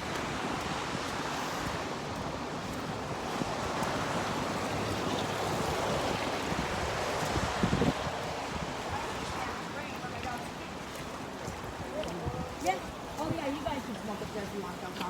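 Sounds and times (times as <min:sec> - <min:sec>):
rain: 0:00.0 - 0:15.0
wind: 0:00.0 - 0:15.0.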